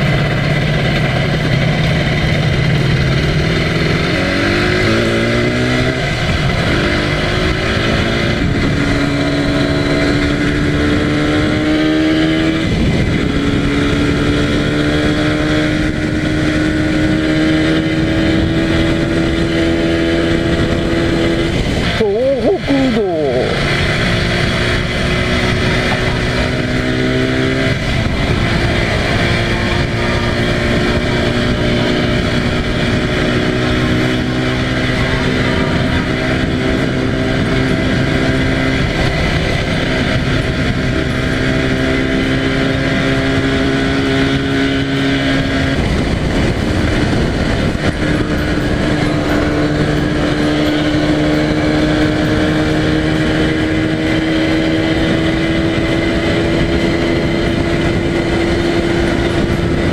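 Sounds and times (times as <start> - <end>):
two-stroke motorcycle engine: 0.0 - 59.9
wind rushing: 1.2 - 59.9.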